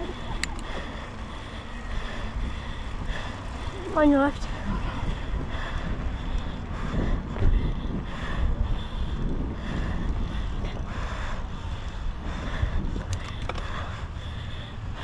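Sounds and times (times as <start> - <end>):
bike tyres rolling over dirt: 0.0 - 15.0
rider breathing hard: 0.0 - 15.0
wind rushing over microphone: 0.0 - 15.0.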